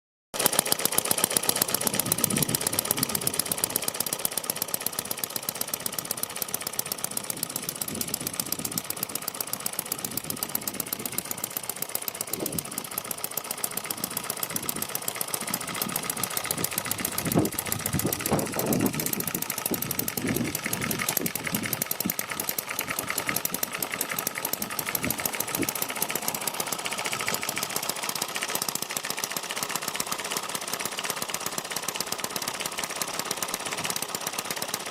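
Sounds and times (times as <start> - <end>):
small engine running: 0.4 - 34.9.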